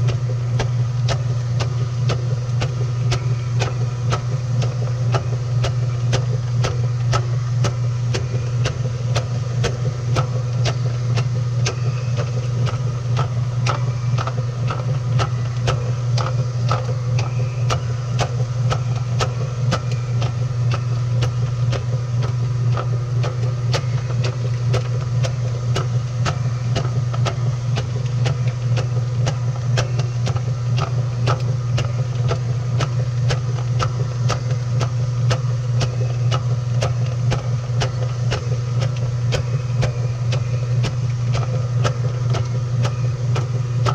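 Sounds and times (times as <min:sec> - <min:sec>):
washing machine hum: 0:00.0 - 0:43.9.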